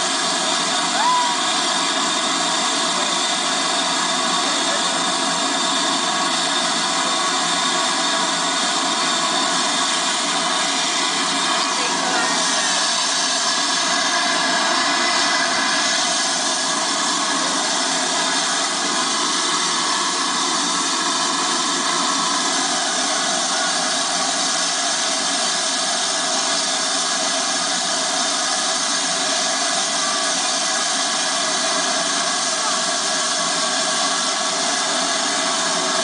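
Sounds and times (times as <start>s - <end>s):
steam hissing from locomotive: 0.0s - 36.0s.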